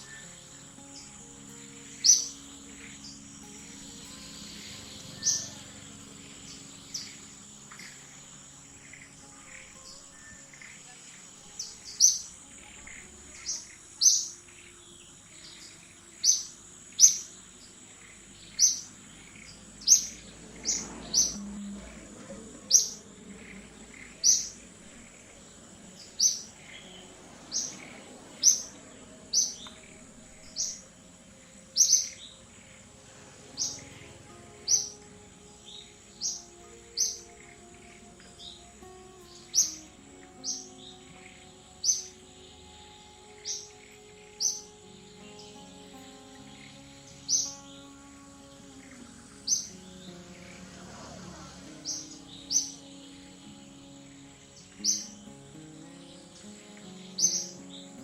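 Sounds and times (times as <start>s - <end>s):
bird chirping: 0.0s - 58.0s
high insect drone: 0.0s - 58.0s.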